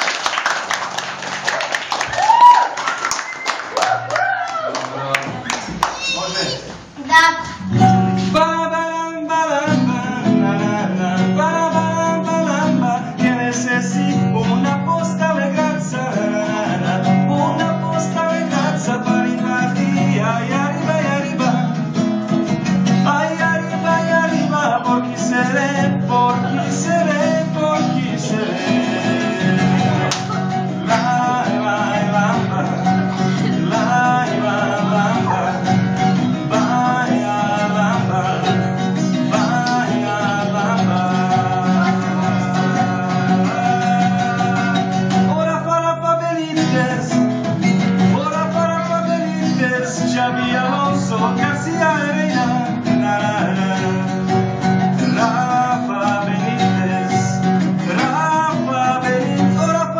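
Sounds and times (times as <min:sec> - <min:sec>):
acoustic guitars strumming: 0:00.0 - 0:02.2, 0:05.1 - 0:59.9
person singing: 0:07.6 - 0:21.8, 0:22.9 - 0:47.3, 0:48.0 - 0:59.9.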